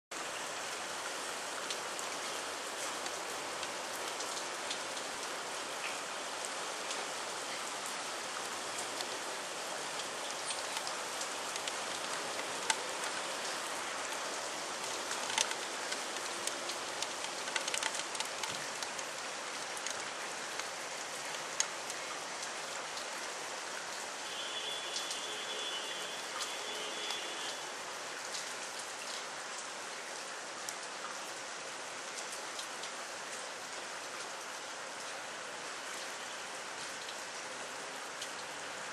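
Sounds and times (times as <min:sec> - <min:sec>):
steady rain falling: 0:00.1 - 0:38.9.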